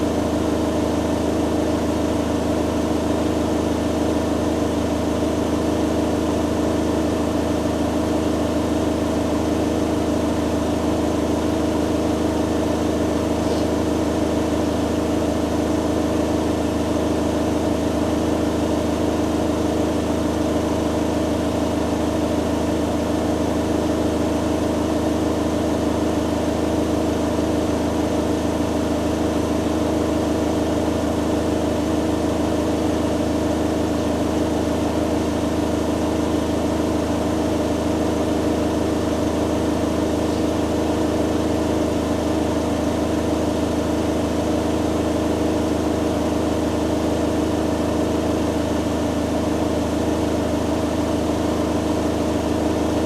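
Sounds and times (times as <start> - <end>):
washing machine spinning: 0.0 - 53.0.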